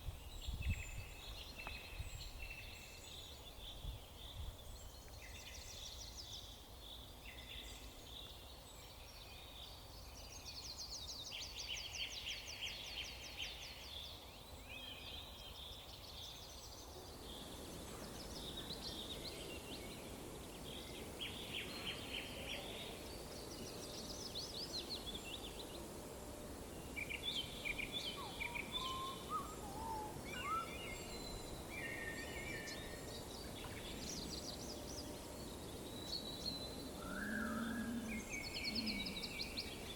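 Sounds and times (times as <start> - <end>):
songbirds singing and calling: 0.0 - 39.9
steady background hiss: 0.0 - 39.9.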